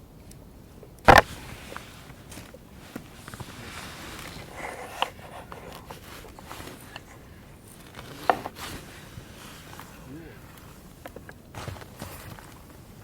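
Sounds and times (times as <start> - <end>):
rustling and scraping of objects: 1.1 - 13.0.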